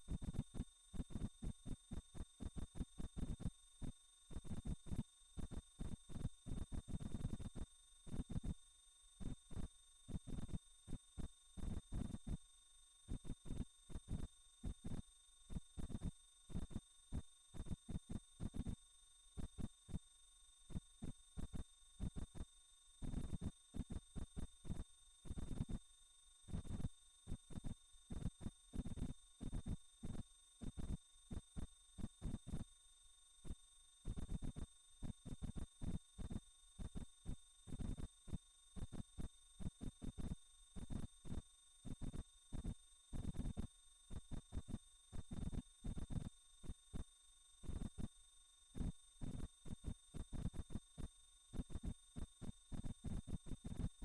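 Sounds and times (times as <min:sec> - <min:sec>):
high-pitched pulsing sine tone: 0:00.0 - 0:54.0.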